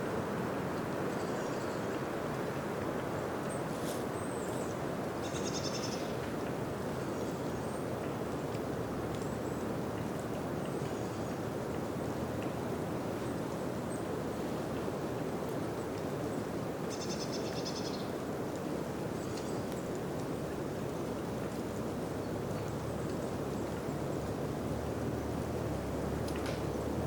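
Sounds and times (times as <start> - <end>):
wind through trees: 0.0 - 27.0.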